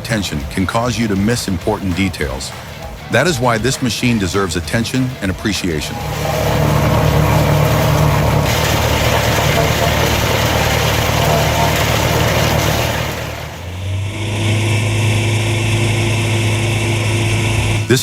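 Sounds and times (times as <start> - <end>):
engine hum: 0.0 - 18.0
wood-peeling machine running: 0.0 - 18.0.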